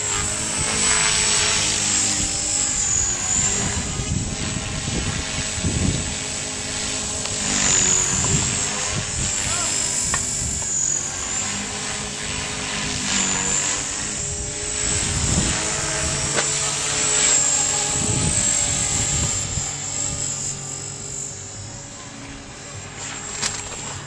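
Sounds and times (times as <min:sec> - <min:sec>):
rc helicopter motor whine: 0:00.0 - 0:24.0
rotor hum: 0:00.0 - 0:24.0.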